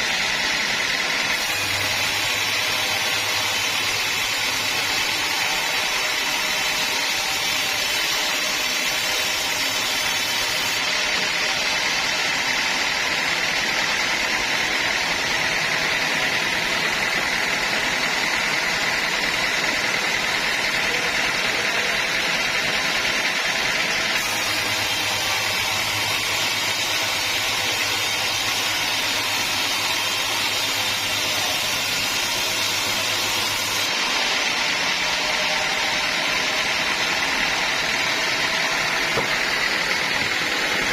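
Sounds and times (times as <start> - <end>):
sawmill log saw running: 0.0 - 40.9.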